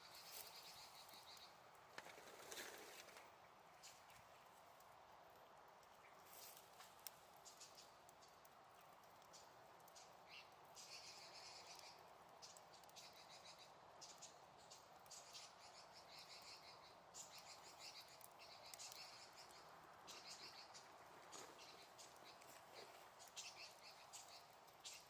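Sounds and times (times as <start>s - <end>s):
soft steady hiss: 0.0s - 25.0s.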